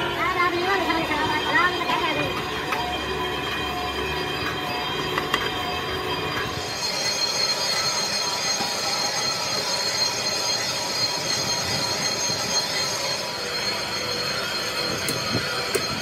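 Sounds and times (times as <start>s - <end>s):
high-pitched metallic squeal: 0.0s - 16.0s
metal grinding: 0.6s - 16.0s.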